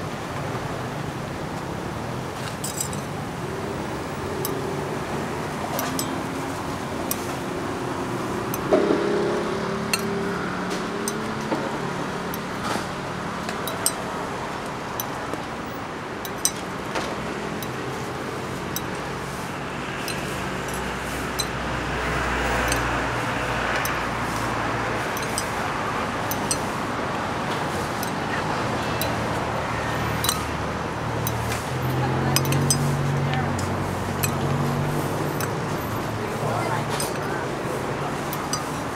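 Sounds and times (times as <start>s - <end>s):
street traffic noise: 0.0s - 38.9s
vehicle passing rumble: 0.0s - 38.9s.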